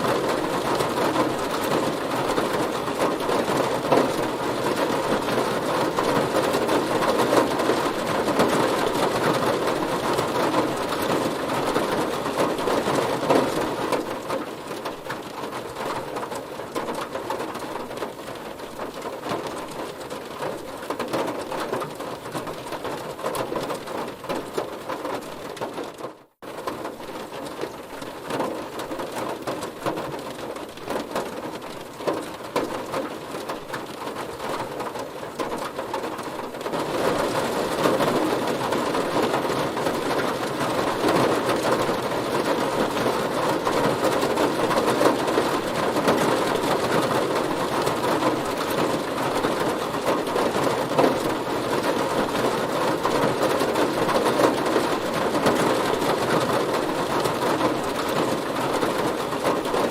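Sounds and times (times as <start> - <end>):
heavy rain on a car body: 0.0 - 59.9.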